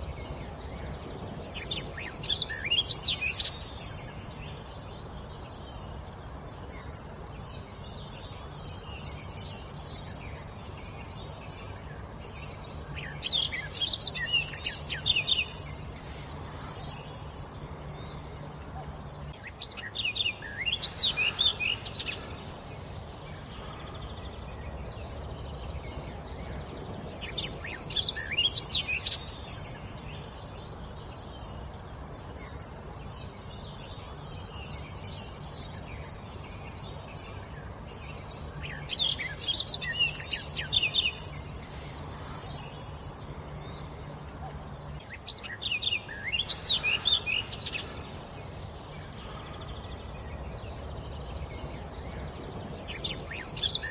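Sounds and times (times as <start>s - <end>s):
songbird whistling song: 0.0s - 53.9s
steady low hum: 0.0s - 53.9s.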